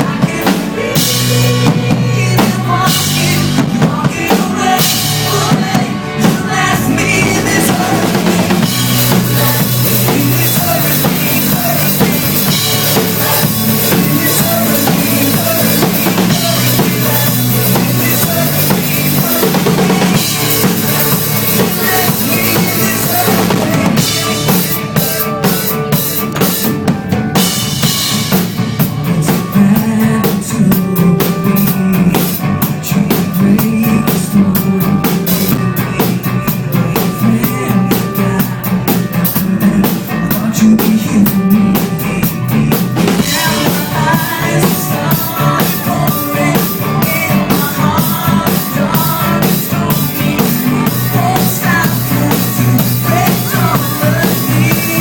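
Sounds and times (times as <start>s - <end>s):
drum kit beat: 0.0s - 55.0s
pop-rock band playing live: 0.0s - 55.0s.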